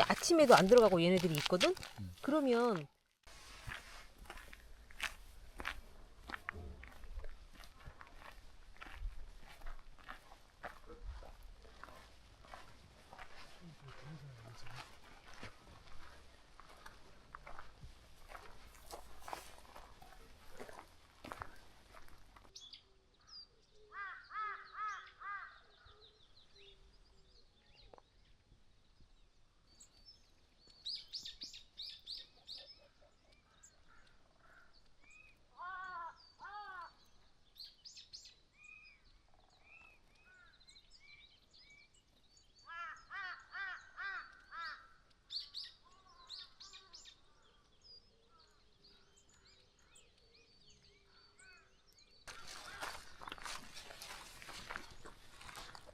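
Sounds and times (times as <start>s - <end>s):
birds calling: 3.7s - 28.3s, 30.7s - 55.9s.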